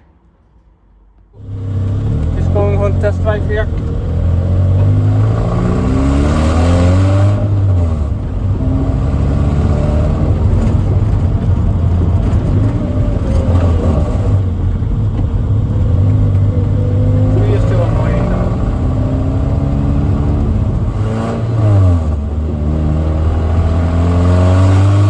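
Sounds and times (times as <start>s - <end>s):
car engine accelerating: 1.2s - 25.0s.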